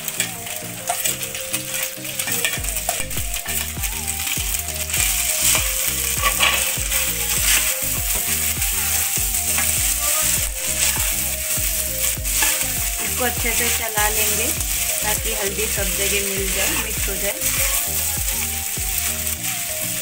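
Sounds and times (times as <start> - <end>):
rice sizzling in oil: 0.0 - 20.0
steel spoon scraping pan: 0.0 - 20.0.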